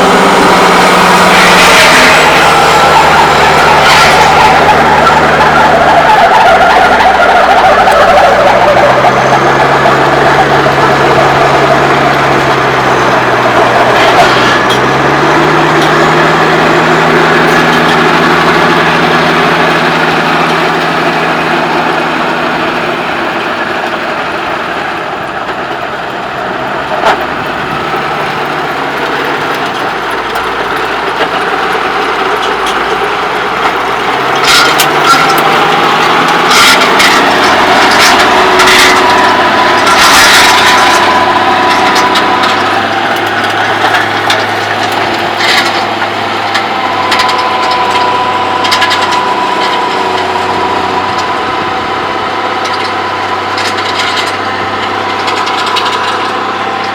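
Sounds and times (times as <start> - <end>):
tractor diesel engine under load: 0.0 - 56.9.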